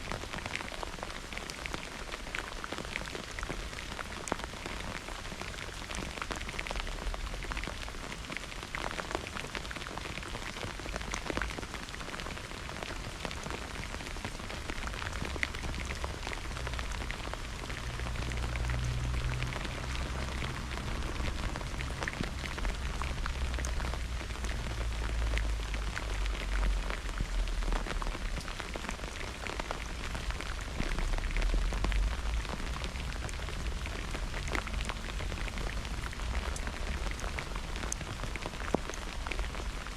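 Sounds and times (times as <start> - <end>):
heavy rain falling: 0.0 - 39.9
raindrops ticking: 0.0 - 39.9.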